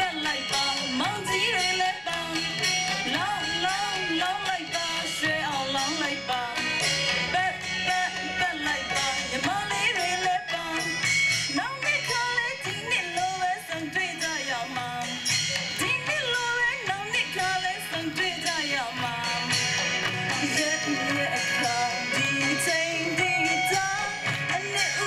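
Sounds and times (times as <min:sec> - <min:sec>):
backing track with steady beat: 0:00.0 - 0:25.0
woman singing into microphone: 0:00.0 - 0:25.0.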